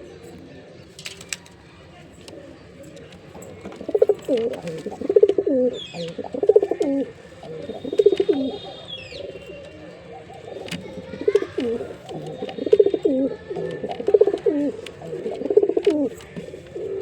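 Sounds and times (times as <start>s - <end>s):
pigeon cooing: 2.1s - 17.0s.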